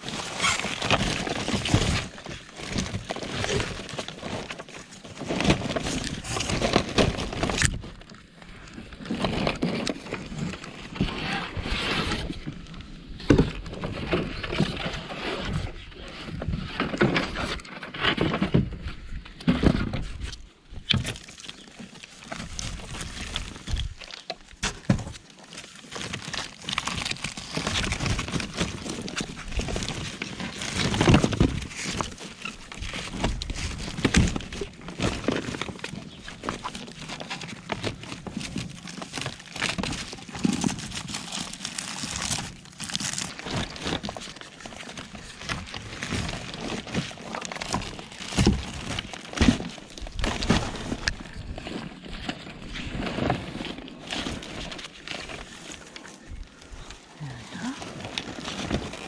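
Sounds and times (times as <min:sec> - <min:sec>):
debris rustling: 0:00.0 - 0:11.0, 0:19.6 - 0:59.0.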